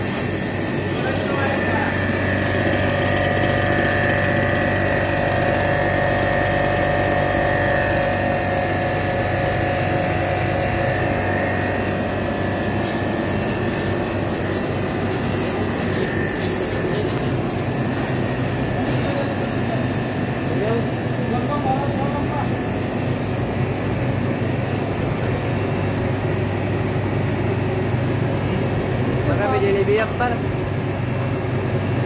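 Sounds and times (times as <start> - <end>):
pressure washer whine and hum: 0.0 - 32.0.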